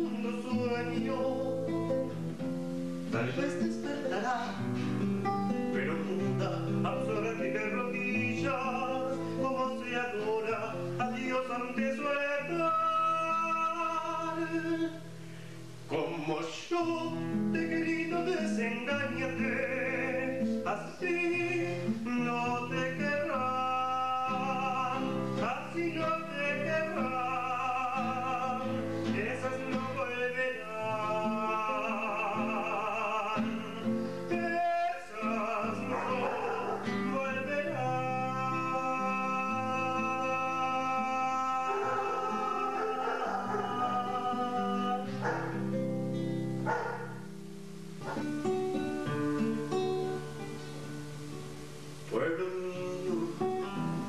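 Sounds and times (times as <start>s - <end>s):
person singing with vibrato: 0.0s - 47.4s, 48.1s - 54.0s
acoustic guitar playing: 0.0s - 54.0s.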